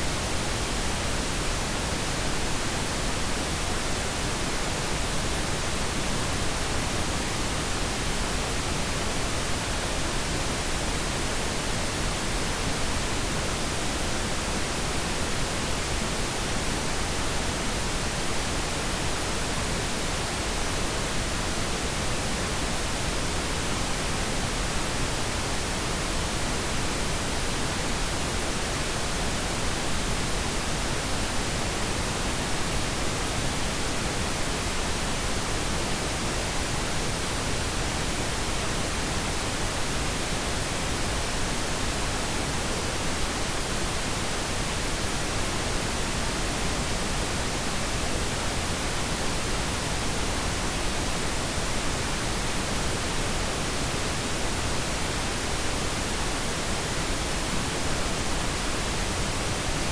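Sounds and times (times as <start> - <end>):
steady pink noise: 0.0 - 59.9.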